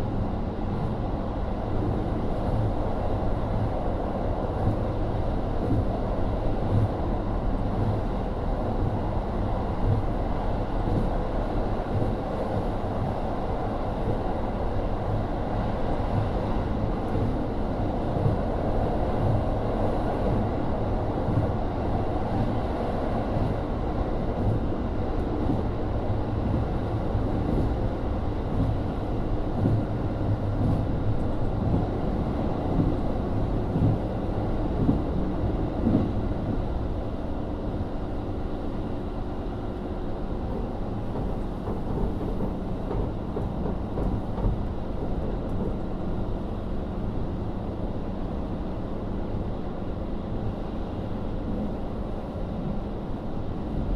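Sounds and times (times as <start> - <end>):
railcar engine and wheels rumbling: 0.0 - 53.9.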